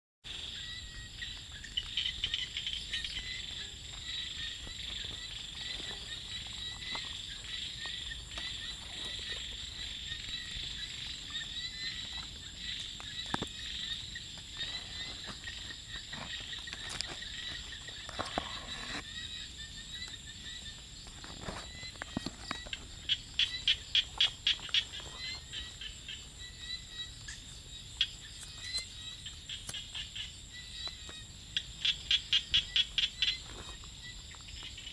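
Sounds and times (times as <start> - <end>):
frog rapid loud calls: 0.3 - 34.9
frogs calling: 0.3 - 34.9
high insect whine: 0.3 - 34.9.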